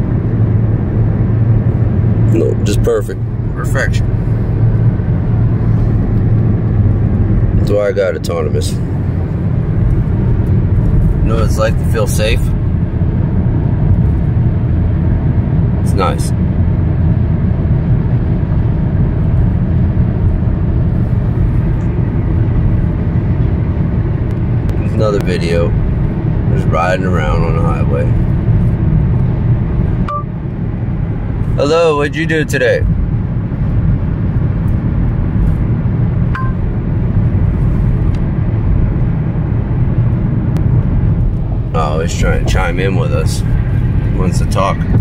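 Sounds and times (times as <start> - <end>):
car cabin road noise: 0.0 - 45.0.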